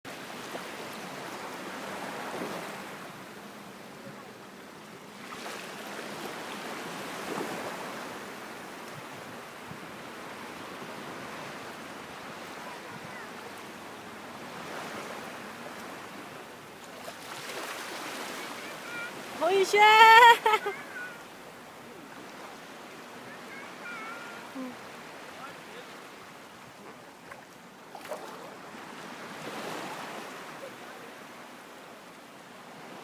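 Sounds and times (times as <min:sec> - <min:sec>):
sea waves washing onto beach: 0:00.1 - 0:33.0.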